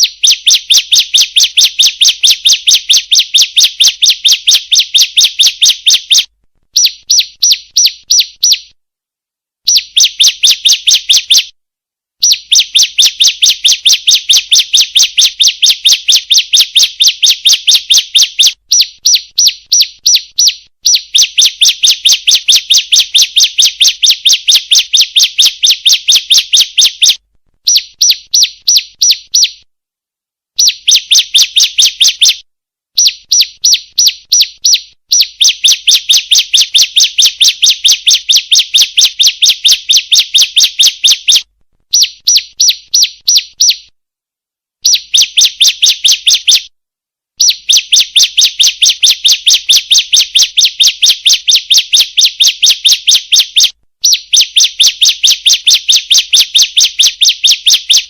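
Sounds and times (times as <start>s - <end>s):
bird sharp high chirps: 0.0s - 8.8s, 9.7s - 11.5s, 12.2s - 29.7s, 30.6s - 32.4s, 33.0s - 43.9s, 44.8s - 46.7s, 47.4s - 58.0s.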